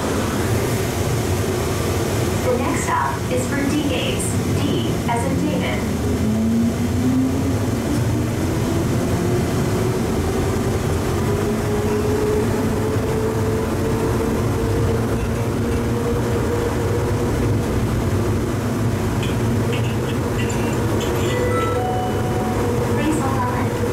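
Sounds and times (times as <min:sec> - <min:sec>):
low train rumble: 0:00.0 - 0:23.9.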